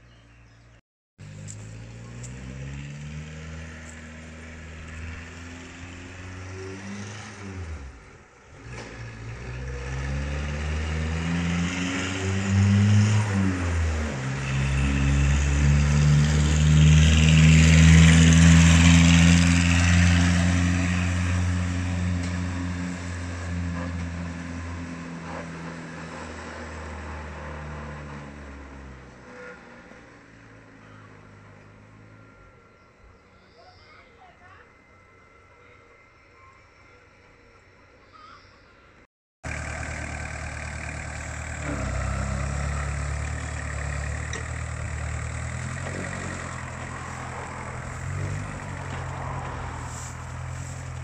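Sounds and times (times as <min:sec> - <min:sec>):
tractor diesel engine driving past: 0:01.2 - 0:38.0, 0:39.4 - 0:51.0.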